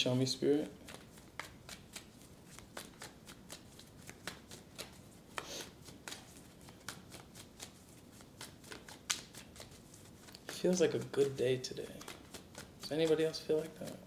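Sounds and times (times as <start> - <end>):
cards being shuffled: 0.7 - 14.0.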